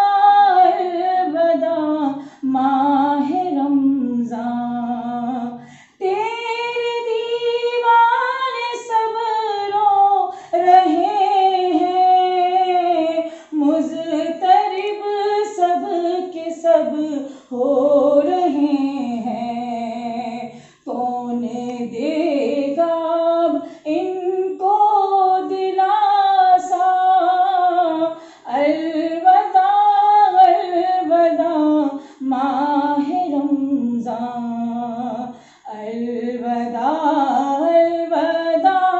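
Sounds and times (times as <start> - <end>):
woman singing: 0.0 - 38.9.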